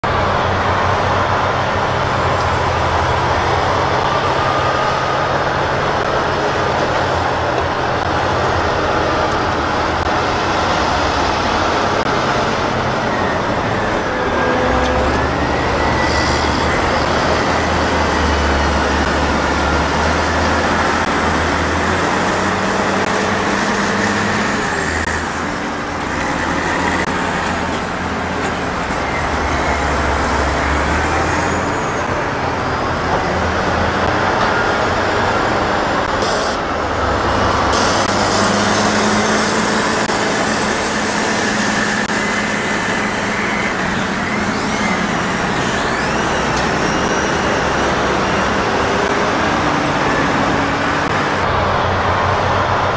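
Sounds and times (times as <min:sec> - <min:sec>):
diesel engines droning: 0:00.0 - 0:52.9.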